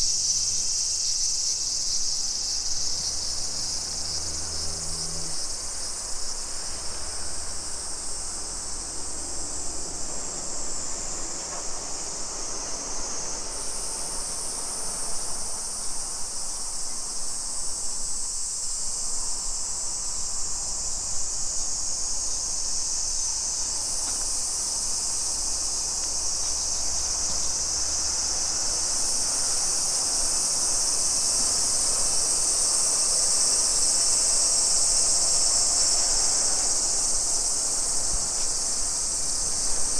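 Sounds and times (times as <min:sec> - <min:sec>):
shrill insect chorus: 0:00.0 - 0:39.9.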